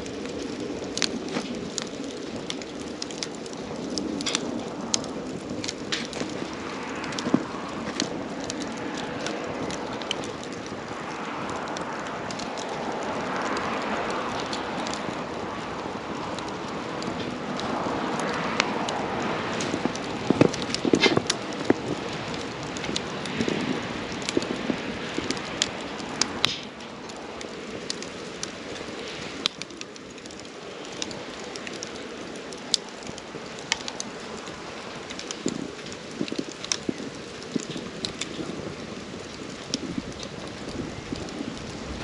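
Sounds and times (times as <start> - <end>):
campfire crackling and popping: 0.0 - 42.0
hiss of flames: 0.0 - 42.0.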